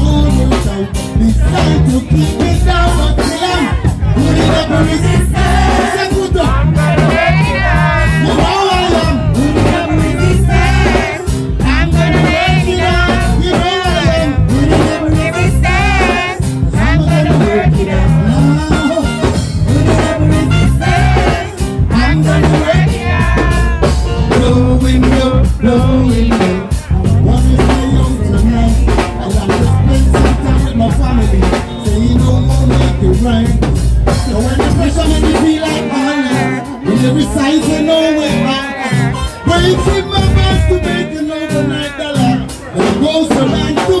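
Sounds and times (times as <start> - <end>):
bass guitar: 0.0 - 44.0
drum kit: 0.0 - 44.0
reggae band playing: 0.0 - 44.0.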